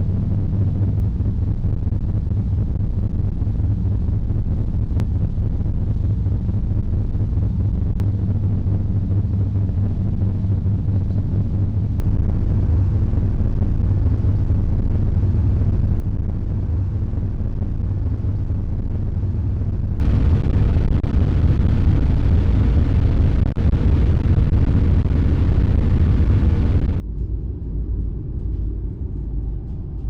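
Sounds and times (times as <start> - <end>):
ferry engine rumble: 0.0 - 30.0.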